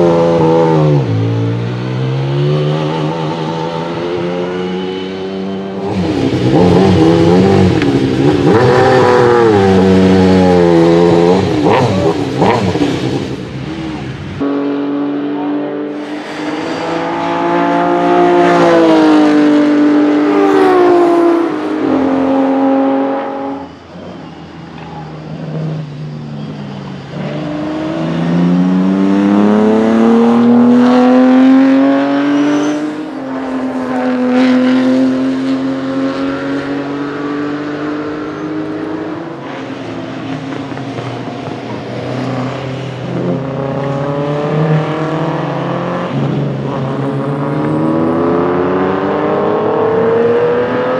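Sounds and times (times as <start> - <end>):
race car accelerating past: 0.0 - 50.9
racing engine revving: 0.0 - 50.9.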